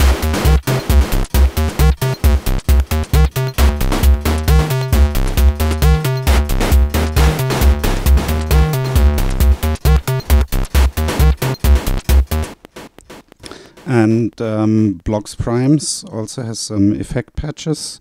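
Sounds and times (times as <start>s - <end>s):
electronic techno loop: 0.0s - 15.2s.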